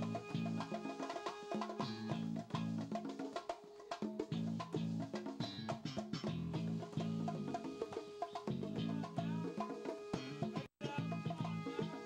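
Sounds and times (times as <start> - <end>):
live latin band music: 0.0 - 12.0.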